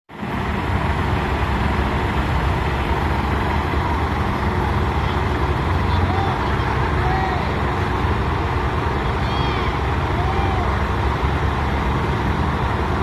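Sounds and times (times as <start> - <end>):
heavy machinery low drone: 0.1 - 13.0.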